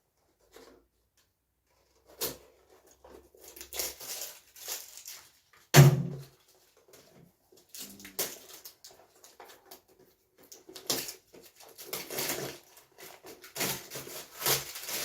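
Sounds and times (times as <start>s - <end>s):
packaging rustling and crinkling: 1.9s - 15.0s.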